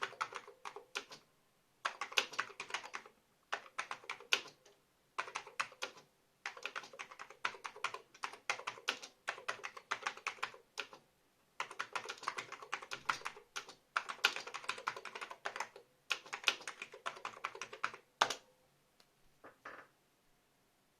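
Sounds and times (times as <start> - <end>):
computer keyboard typing: 0.0 - 1.2, 1.8 - 11.0, 11.6 - 18.4.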